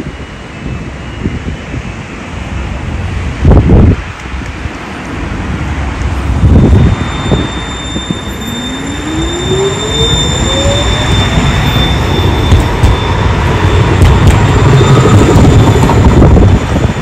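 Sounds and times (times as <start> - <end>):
tram wheels rumbling on rail: 0.0 - 17.0.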